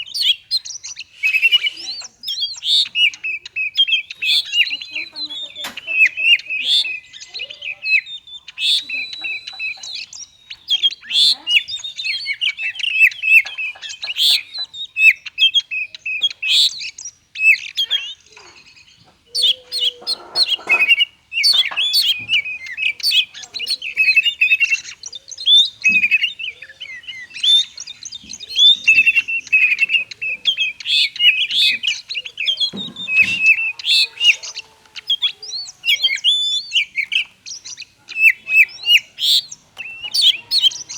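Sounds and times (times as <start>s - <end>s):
songbird chirps and whistles: 0.0s - 40.9s.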